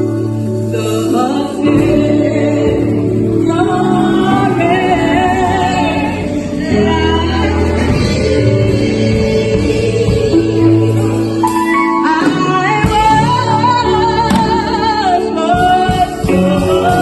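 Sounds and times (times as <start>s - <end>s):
choir singing a hymn: 0.0s - 17.0s
sustained organ-like keyboard: 0.0s - 17.0s.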